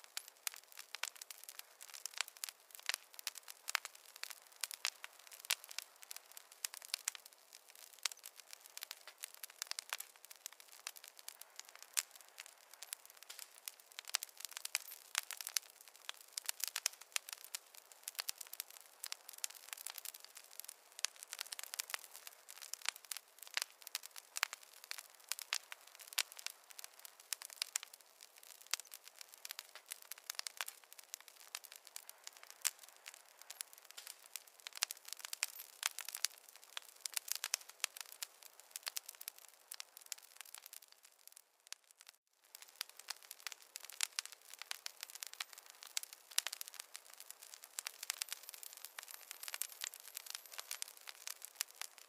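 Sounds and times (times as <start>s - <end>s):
campfire crackling and popping: 0.0s - 52.0s.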